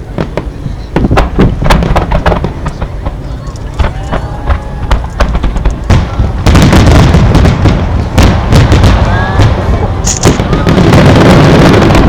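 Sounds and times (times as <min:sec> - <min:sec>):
continuous low rumble: 0:00.0 - 0:12.0
fireworks booming: 0:00.0 - 0:12.0
fireworks crackling: 0:00.0 - 0:12.0.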